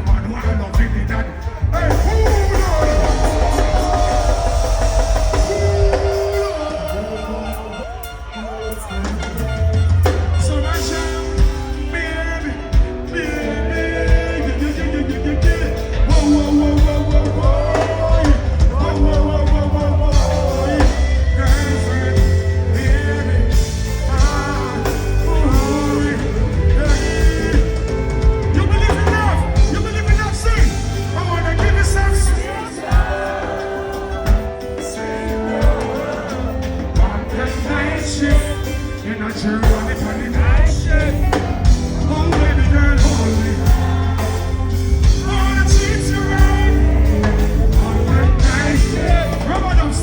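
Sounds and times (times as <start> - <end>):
dancehall reggae music: 0.0 - 50.0
heavy bass line: 0.0 - 50.0
person singing: 0.0 - 50.0.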